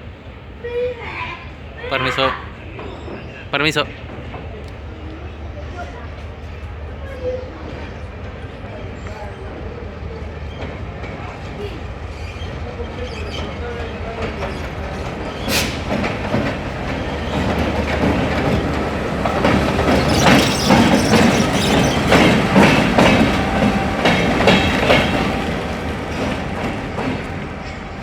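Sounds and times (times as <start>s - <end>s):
train passing close by: 0.0s - 28.0s
wheels clacking over rail joints: 2.6s - 28.0s.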